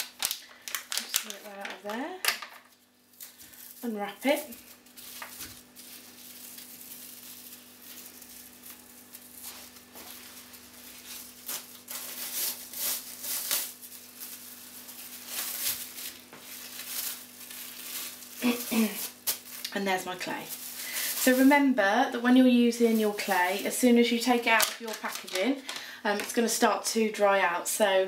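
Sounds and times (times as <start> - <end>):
plastic wrapping crinkling: 0.0 - 26.6.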